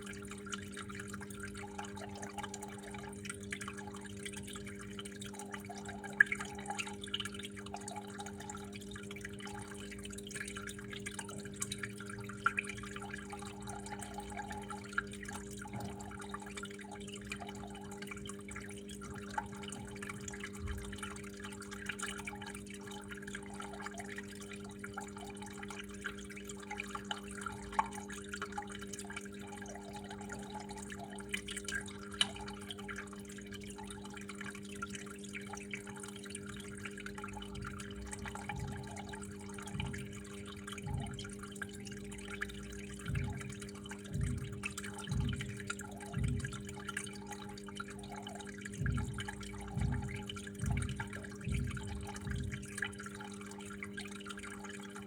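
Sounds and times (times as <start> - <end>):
low steady hum: 0.0 - 55.0
water dripping and trickling: 0.0 - 55.0.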